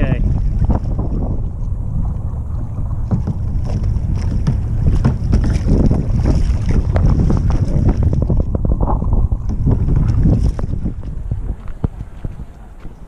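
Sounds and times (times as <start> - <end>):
paddle splashing water: 0.0 - 13.0
wind buffeting microphone: 0.0 - 13.0.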